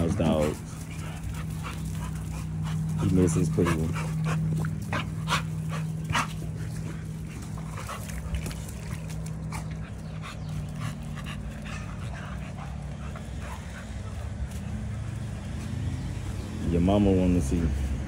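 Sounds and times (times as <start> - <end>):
steady low hum: 0.0 - 15.5.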